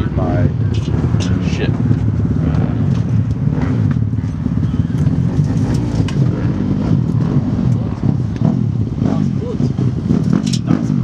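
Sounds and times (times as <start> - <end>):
dirt bike engines running: 0.0 - 11.0.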